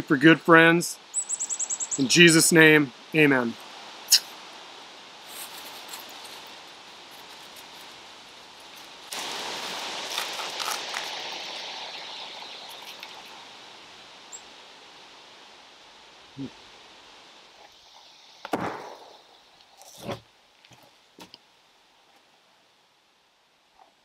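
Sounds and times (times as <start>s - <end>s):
breeze rustling leaves: 0.0s - 24.0s.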